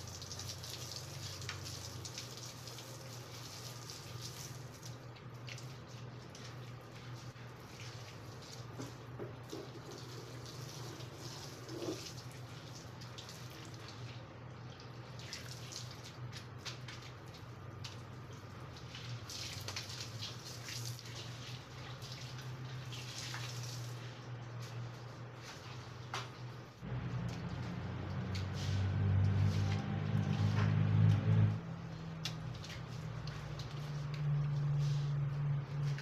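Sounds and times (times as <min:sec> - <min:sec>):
water splashing on tiled floor: 0:00.0 - 0:36.0
mop swishing on wet tiles: 0:02.7 - 0:12.6, 0:14.9 - 0:36.0.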